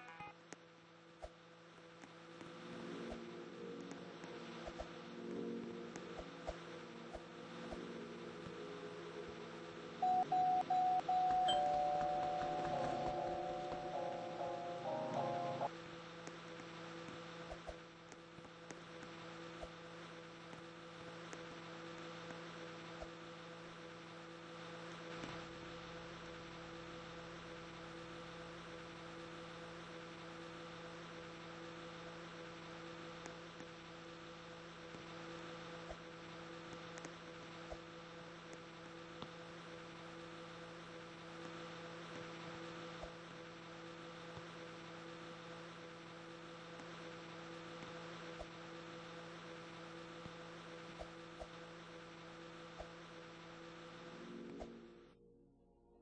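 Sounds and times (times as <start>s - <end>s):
microwave oven hum: 1.6s - 55.1s.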